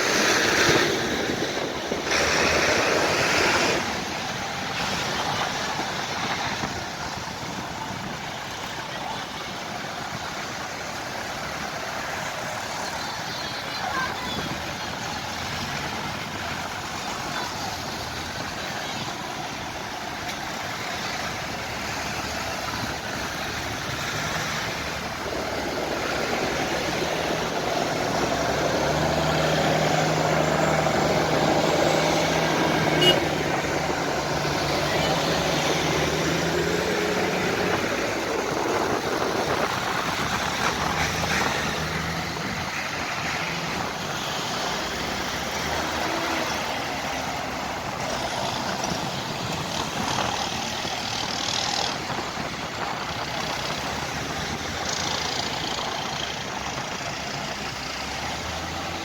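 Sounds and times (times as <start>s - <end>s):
tractor engine passing: 0.0s - 59.0s.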